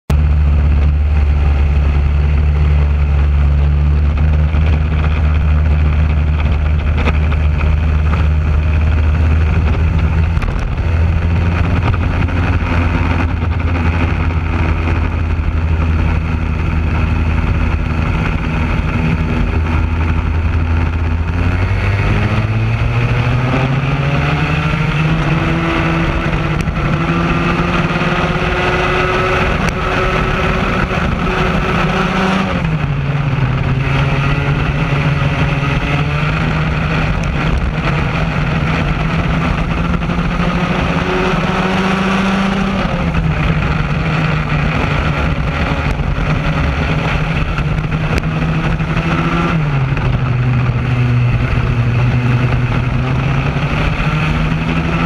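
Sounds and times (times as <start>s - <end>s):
kart two-stroke engine: 0.1s - 55.0s.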